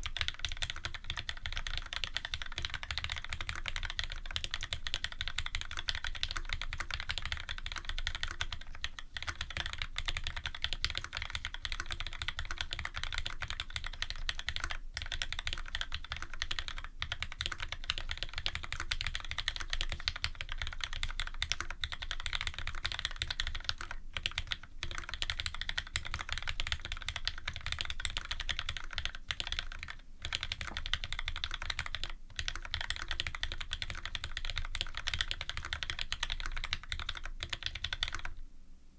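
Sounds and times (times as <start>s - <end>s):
mechanical keyboard typing: 0.0s - 38.4s.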